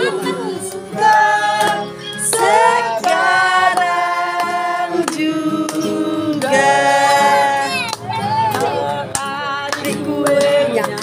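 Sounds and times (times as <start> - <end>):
voices singing long notes: 0.0 - 10.9.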